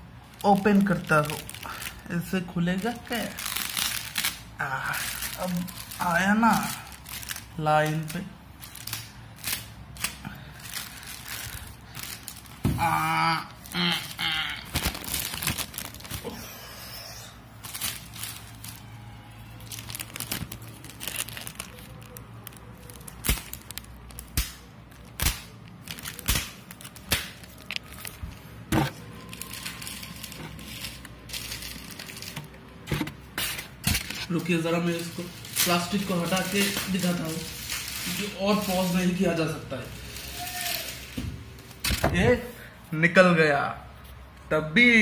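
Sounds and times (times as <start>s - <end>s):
plastic bag crinkling and tearing: 0.1s - 42.1s.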